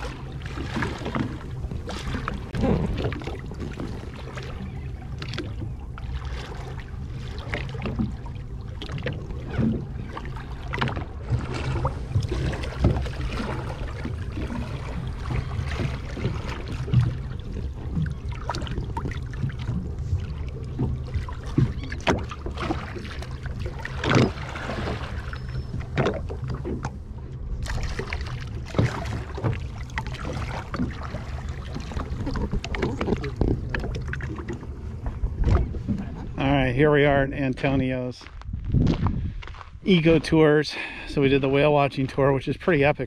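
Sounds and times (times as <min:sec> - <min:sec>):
wind rumble on microphone: 0:00.0 - 0:40.6
water splashing against boat: 0:00.0 - 0:43.0.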